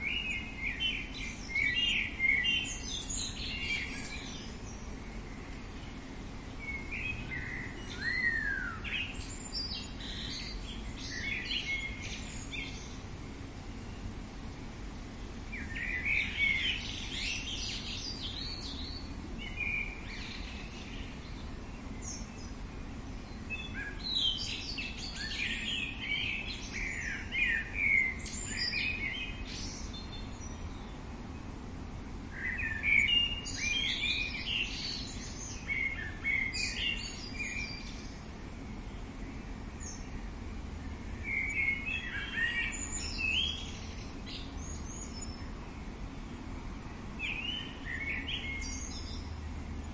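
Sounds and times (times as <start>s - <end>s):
birds chirping: 0.0s - 49.9s
low background rumble: 0.0s - 49.9s.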